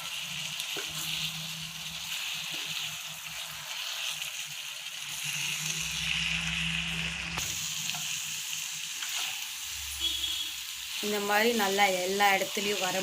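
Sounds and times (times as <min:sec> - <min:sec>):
food sizzling in a skillet: 0:00.0 - 0:13.0.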